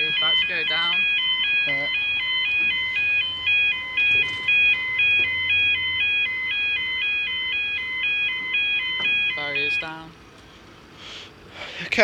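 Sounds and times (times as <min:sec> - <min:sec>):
level crossing alarm warble: 0:00.0 - 0:12.0.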